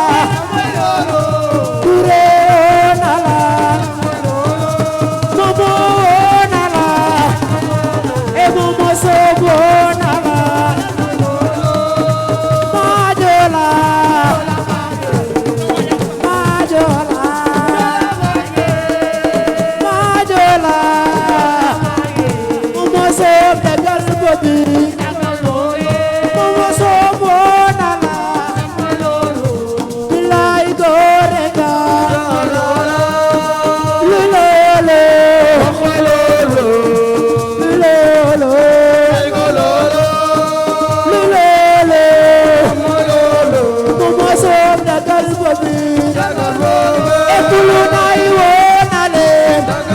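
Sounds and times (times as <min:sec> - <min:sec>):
percussion: 0:00.0 - 0:49.9.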